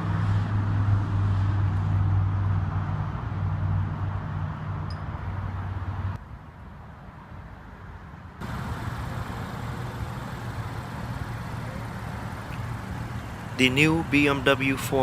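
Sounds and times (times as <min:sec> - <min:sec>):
motor vehicle noise: 0:00.0 - 0:06.2, 0:08.3 - 0:15.0.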